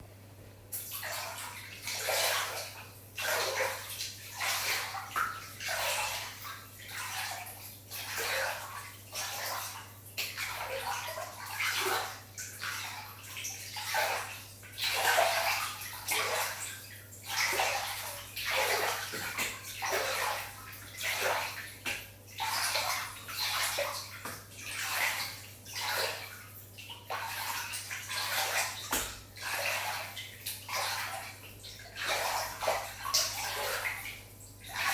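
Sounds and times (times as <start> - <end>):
water splashing and sloshing: 0.6 - 34.9.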